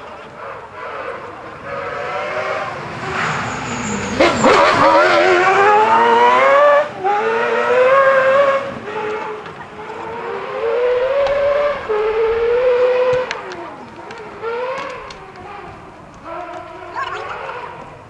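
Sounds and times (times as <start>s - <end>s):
car engine accelerating past: 0.0s - 17.9s
gear changes: 0.2s - 18.0s.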